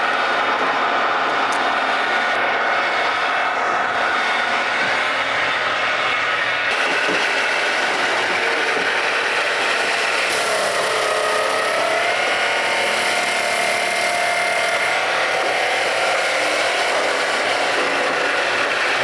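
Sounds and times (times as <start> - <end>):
sawmill running: 0.0 - 19.0.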